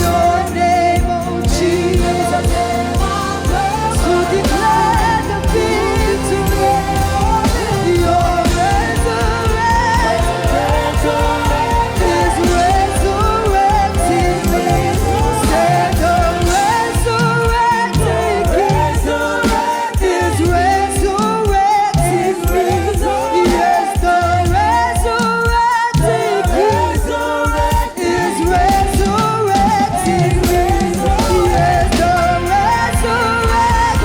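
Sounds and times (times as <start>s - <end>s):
group of voices singing: 0.0s - 34.0s
live band with steady beat: 0.0s - 34.0s.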